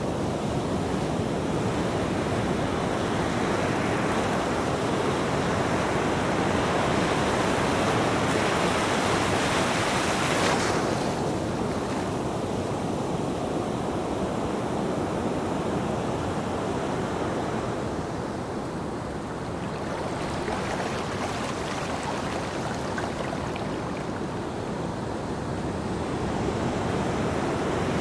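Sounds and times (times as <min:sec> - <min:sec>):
ocean waves washing onto beach: 0:00.0 - 0:28.0.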